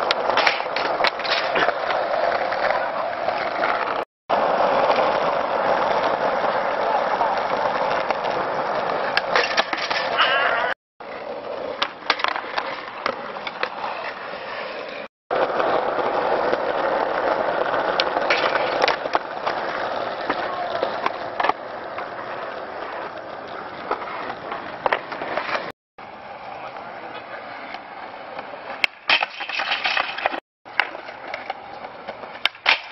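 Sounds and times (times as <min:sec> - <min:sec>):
skateboard clacks: 0:00.0 - 0:25.7, 0:26.3 - 0:32.9
skateboard wheels rolling on asphalt: 0:00.0 - 0:32.9.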